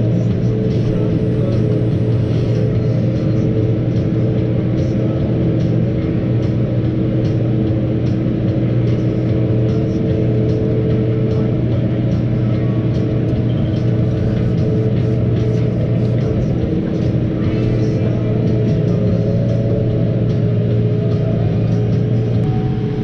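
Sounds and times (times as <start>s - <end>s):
tractor engine droning under load: 0.0s - 23.0s.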